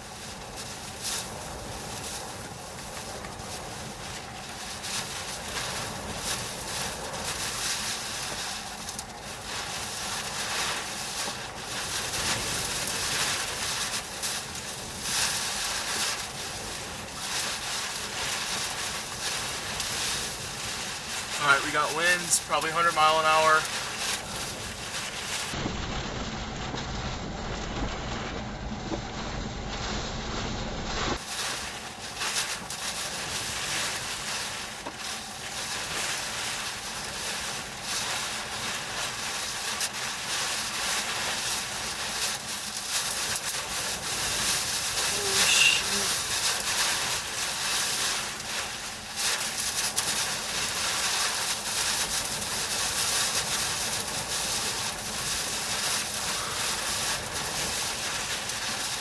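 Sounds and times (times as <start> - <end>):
tornado winds rushing: 0.0 - 59.0.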